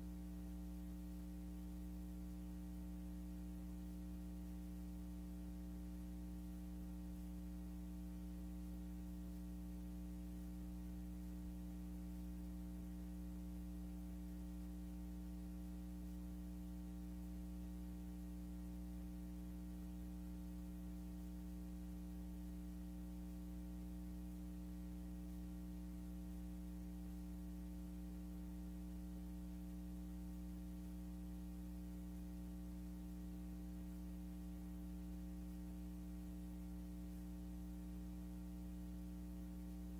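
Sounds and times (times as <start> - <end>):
electrical hum: 0.0 - 39.9
faint hiss: 0.0 - 39.9.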